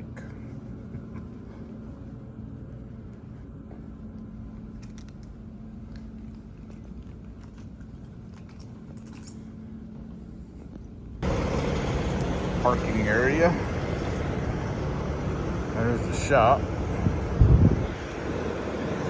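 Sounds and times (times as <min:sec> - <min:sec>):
low room hum: 0:00.0 - 0:19.0
traffic noise outdoors: 0:00.0 - 0:19.0.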